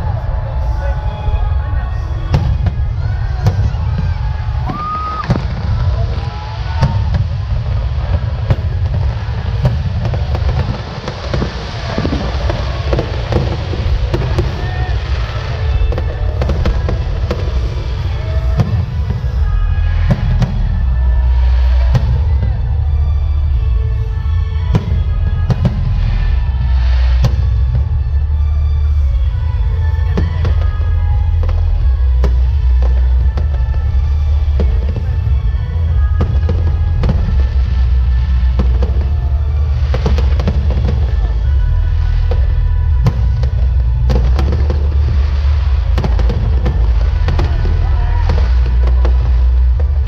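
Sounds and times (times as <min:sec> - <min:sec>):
continuous low rumble: 0:00.0 - 0:50.0.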